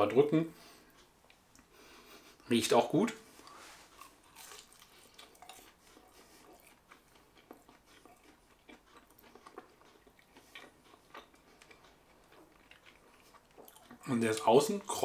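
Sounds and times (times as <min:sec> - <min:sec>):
faint chewing mouth clicks: 0:00.9 - 0:02.4, 0:03.4 - 0:14.8.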